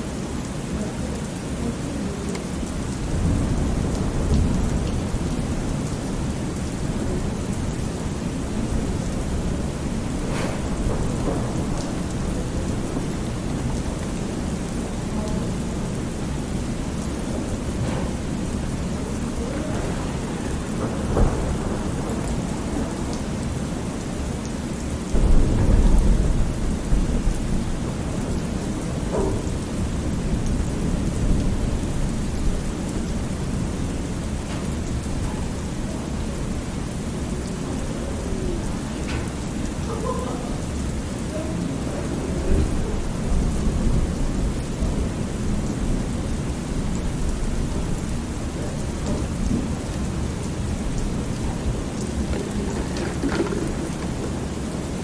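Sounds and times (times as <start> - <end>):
steady rain: 0.0 - 55.0
low thunder rumbles: 2.7 - 55.0.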